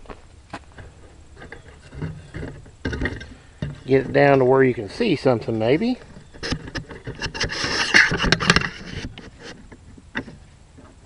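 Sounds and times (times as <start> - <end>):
rubbing and scraping: 0.6 - 11.0.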